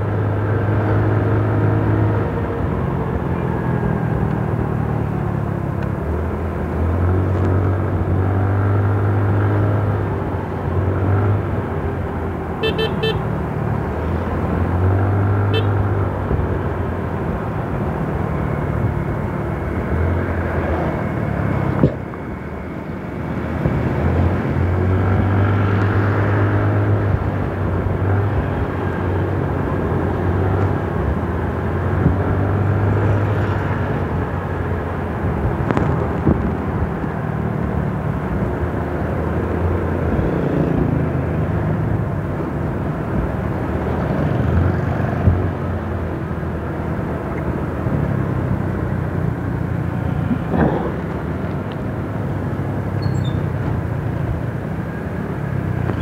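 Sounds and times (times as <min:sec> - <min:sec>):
vehicle engine and wind noise: 0:00.0 - 0:56.0.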